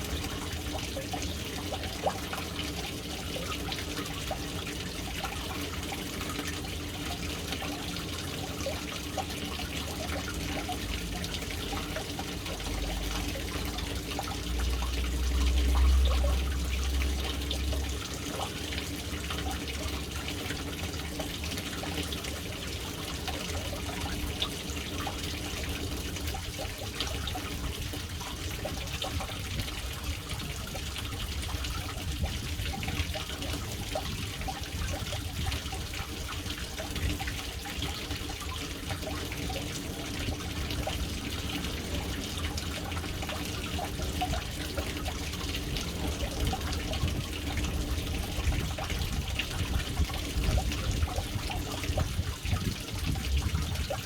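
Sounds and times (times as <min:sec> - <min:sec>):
water trickling into tank: 0:00.0 - 0:54.0.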